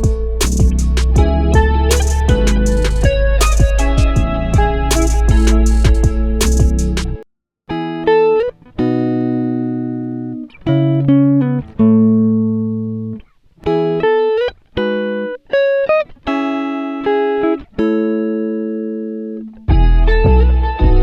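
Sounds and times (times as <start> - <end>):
guitar chords ringing out: 0.0 - 7.0, 7.7 - 21.0.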